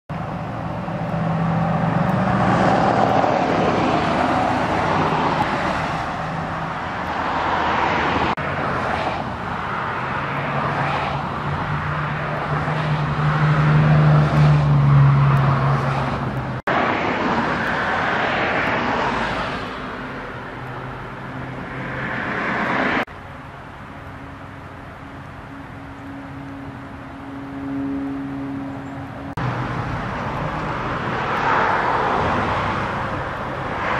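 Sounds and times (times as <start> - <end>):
cars passing: 0.1 - 33.9
heavy vehicle engine: 0.1 - 33.9.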